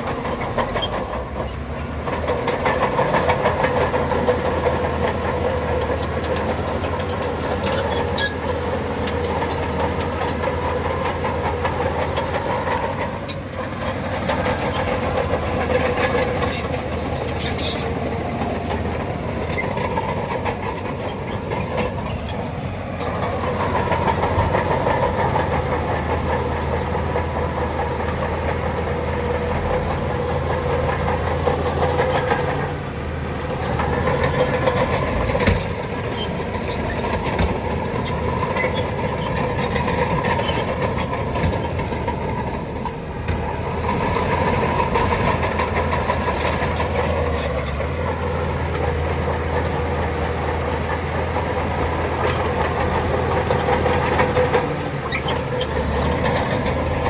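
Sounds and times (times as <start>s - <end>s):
bulldozer diesel engine under load: 0.0s - 57.0s
steel tracks clattering: 0.0s - 57.0s.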